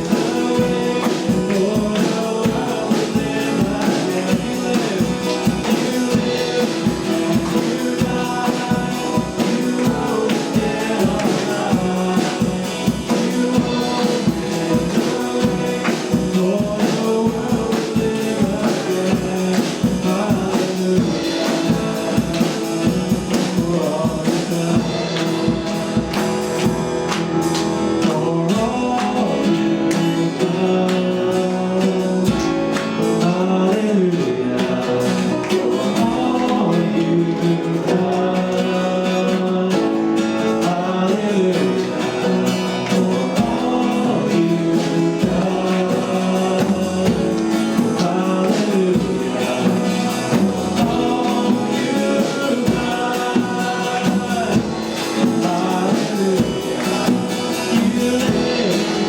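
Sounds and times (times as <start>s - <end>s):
worship song singing: 0.0s - 59.0s.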